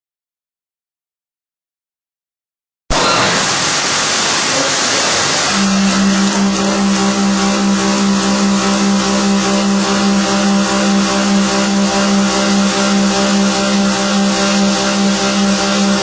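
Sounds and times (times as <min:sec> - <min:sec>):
cnc machine humming: 0:02.9 - 0:16.0
machining hiss: 0:02.9 - 0:16.0.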